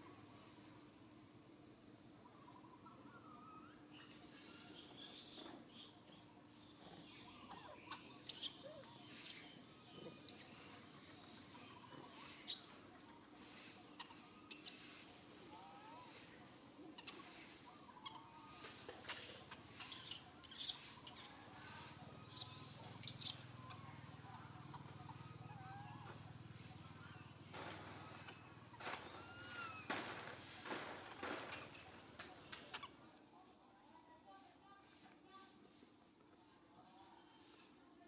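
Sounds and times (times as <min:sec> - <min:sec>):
small chirping calls: 0:02.1 - 0:34.4.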